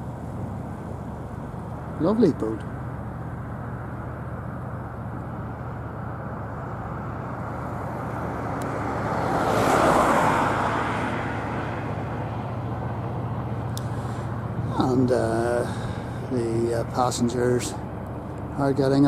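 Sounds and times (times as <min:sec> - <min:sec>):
steady low hum: 0:00.0 - 0:19.0
motor vehicle passing by: 0:01.6 - 0:19.0.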